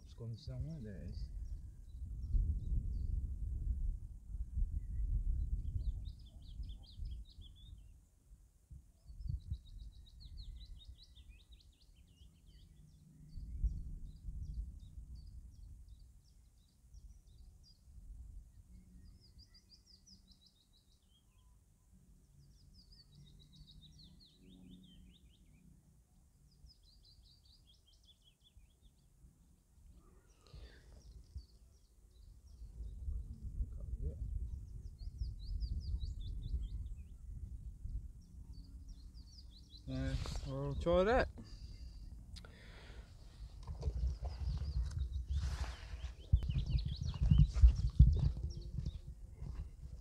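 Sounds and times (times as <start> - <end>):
songbirds trilling: 9.0 - 50.0.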